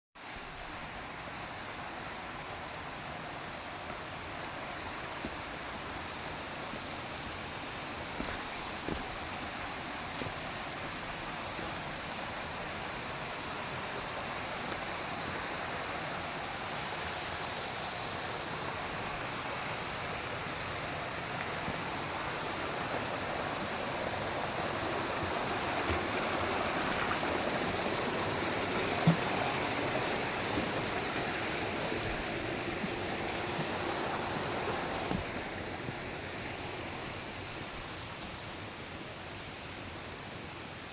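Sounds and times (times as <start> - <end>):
high insect drone: 0.2 - 40.9
stream water rushing: 0.2 - 40.9.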